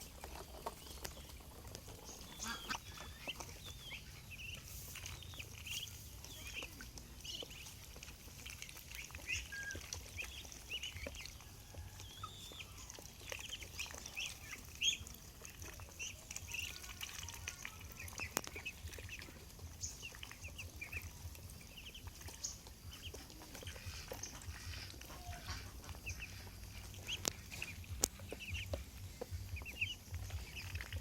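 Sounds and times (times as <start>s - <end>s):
ducklings peeping: 0.0s - 31.0s.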